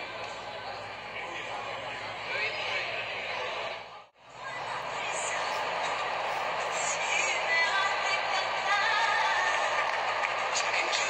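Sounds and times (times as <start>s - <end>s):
stadium crowd singing and chanting: 1.9s - 11.0s.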